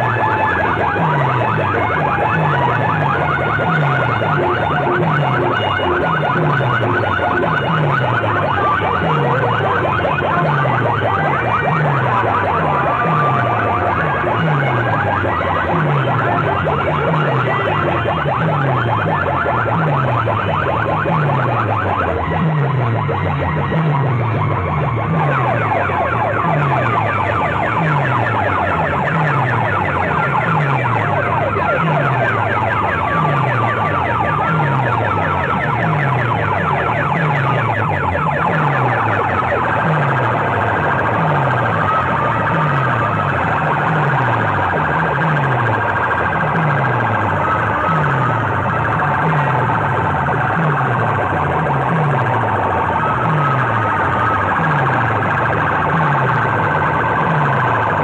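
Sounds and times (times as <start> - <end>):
siren-like electronic music on loudspeakers: 0.0 - 58.0.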